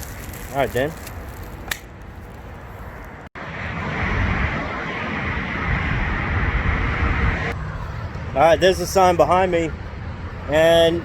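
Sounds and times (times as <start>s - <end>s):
busy road traffic rumble: 0.0s - 11.0s.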